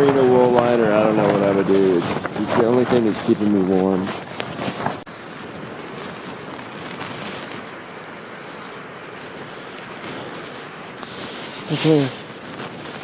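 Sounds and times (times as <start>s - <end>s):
wind blowing against tent: 0.0s - 13.0s.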